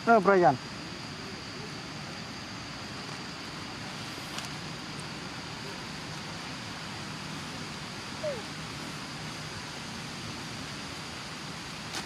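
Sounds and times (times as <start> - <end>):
high-pitched whine: 0.0 - 11.9
outdoor background noise: 0.0 - 12.0.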